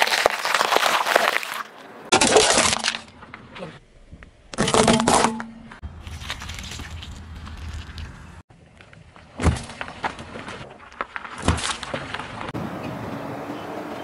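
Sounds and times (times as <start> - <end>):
peppers crunching under tyre: 0.0 - 3.6, 4.5 - 12.6.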